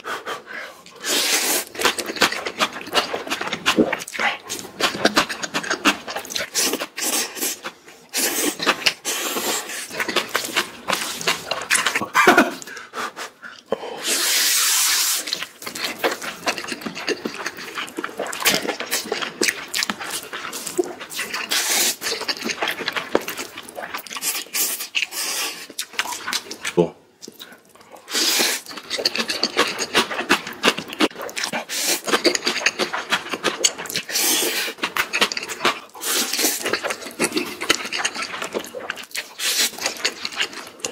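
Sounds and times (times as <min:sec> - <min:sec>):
wet mouth sounds: 0:00.9 - 0:12.8, 0:13.5 - 0:40.9
person slurping noodles: 0:01.0 - 0:13.3, 0:13.9 - 0:25.7, 0:28.0 - 0:40.9.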